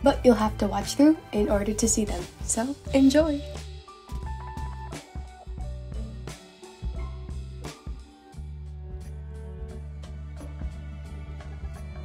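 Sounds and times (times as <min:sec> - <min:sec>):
background music with light beat: 0:00.0 - 0:12.0.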